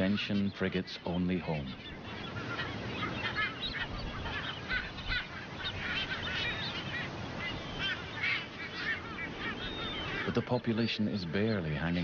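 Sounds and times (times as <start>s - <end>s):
seabirds squawking and chirping: 0.0s - 12.0s.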